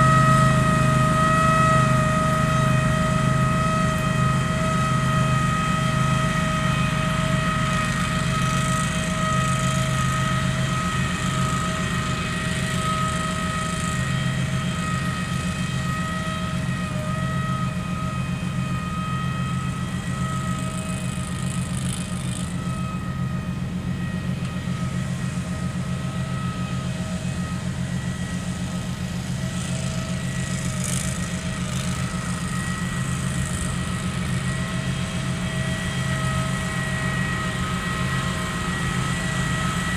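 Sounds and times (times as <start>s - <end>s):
steady high whine: 0.0s - 39.9s
tractor engine low drone: 0.0s - 39.9s.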